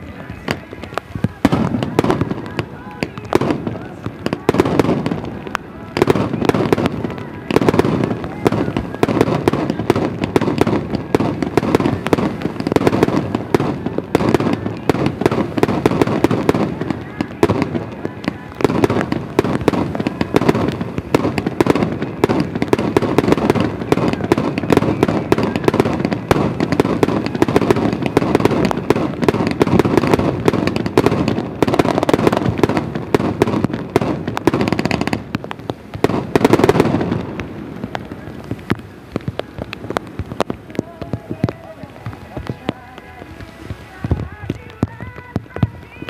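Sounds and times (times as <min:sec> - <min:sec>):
fireworks bursts and crackling: 0:00.0 - 0:46.0.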